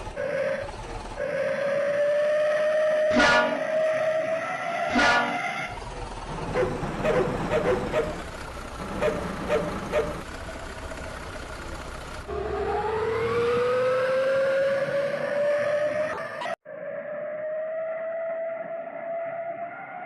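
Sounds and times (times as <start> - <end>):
bus engine revving: 0.0 - 16.6.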